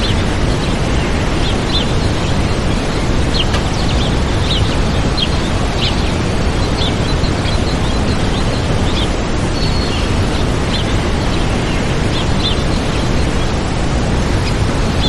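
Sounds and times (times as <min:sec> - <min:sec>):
small birds chirping: 0:00.0 - 0:15.0
waterfall rushing: 0:00.0 - 0:15.0.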